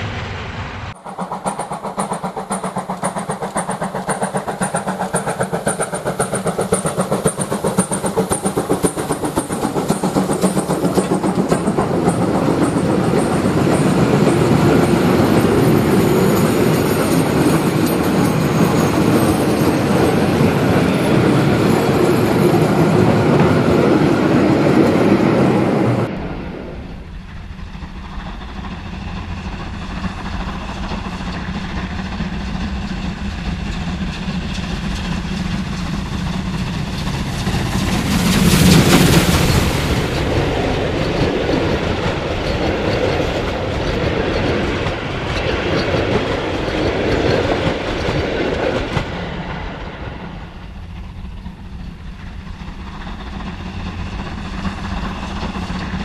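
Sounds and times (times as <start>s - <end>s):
distant steam locomotive rumble: 0.0s - 56.0s
steam locomotive exhaust beats: 0.0s - 56.0s
train wagons rumbling and clattering: 0.0s - 56.0s.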